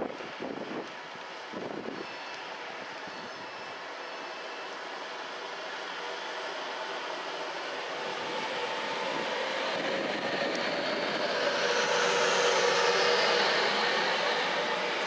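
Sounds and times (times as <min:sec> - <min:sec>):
electric train passing: 0:01.1 - 0:15.0.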